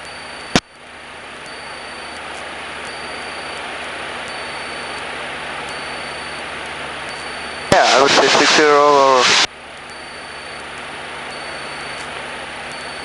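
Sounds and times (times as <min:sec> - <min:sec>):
engine and airflow hiss: 0:00.1 - 0:13.0.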